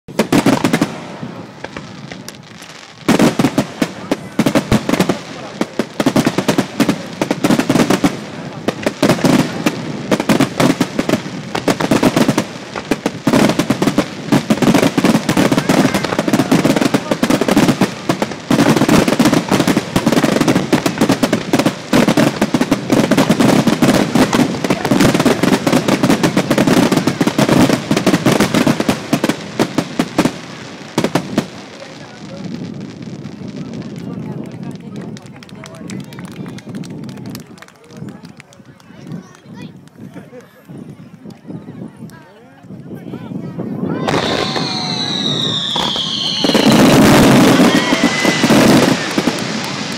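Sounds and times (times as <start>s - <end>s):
fireworks booming and crackling: 0.1s - 49.9s.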